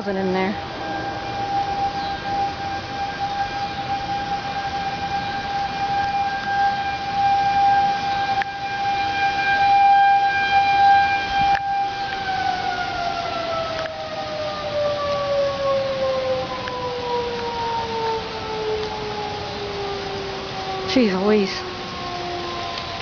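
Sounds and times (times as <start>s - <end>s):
tornado warning siren wailing: 0.0s - 23.0s.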